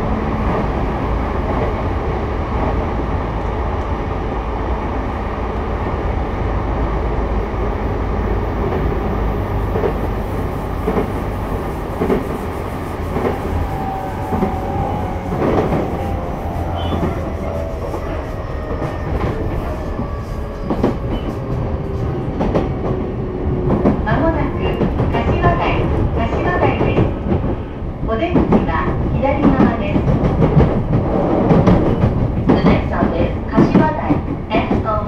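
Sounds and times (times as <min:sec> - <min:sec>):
train wheel and rail rumble: 0:00.0 - 0:35.0.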